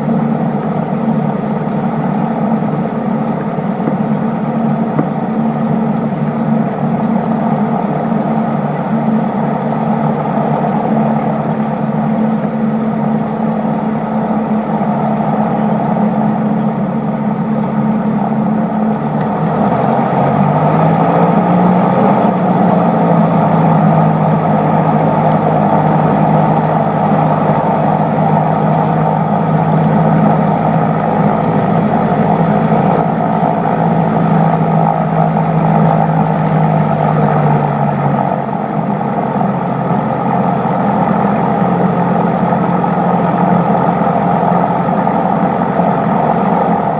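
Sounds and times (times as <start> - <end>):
airplane engine and propeller drone: 0.0 - 46.9.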